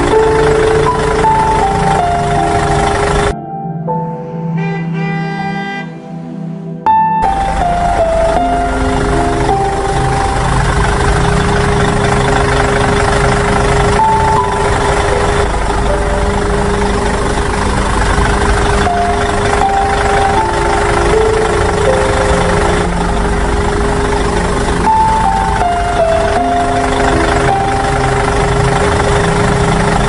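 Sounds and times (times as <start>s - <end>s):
heavy vehicle engine idling: 0.0s - 3.4s, 7.2s - 30.0s
simple tune of held notes: 0.0s - 30.0s.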